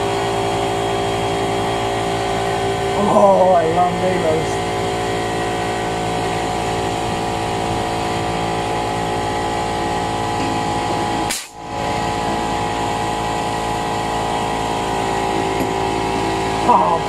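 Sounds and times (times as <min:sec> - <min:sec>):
small air compressor running: 0:00.0 - 0:17.0.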